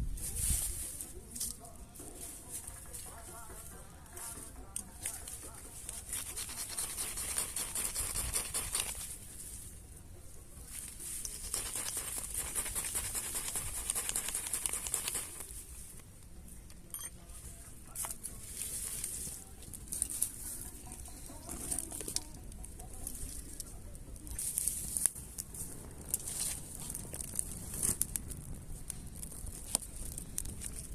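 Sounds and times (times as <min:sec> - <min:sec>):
campfire embers crackling: 0:00.0 - 0:30.9.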